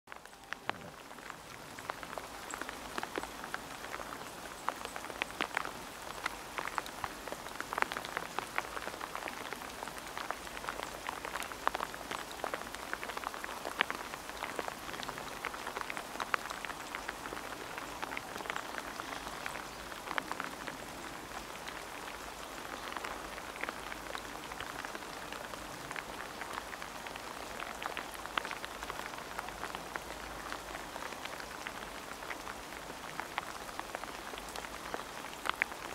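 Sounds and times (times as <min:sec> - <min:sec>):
rain pattering on wet surfaces: 0:00.1 - 0:35.9.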